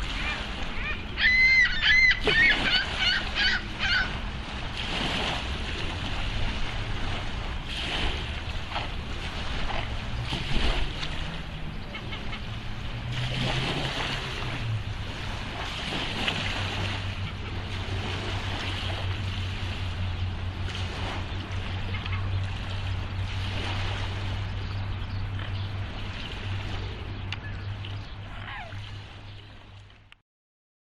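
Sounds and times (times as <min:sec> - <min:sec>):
low steady hum: 0:00.0 - 0:30.2
water splashing and lapping: 0:00.0 - 0:30.2.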